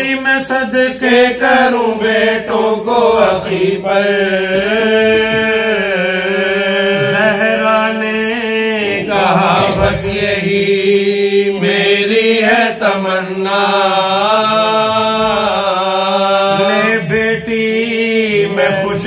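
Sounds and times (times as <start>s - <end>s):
men chanting an elegy: 0.1s - 19.0s.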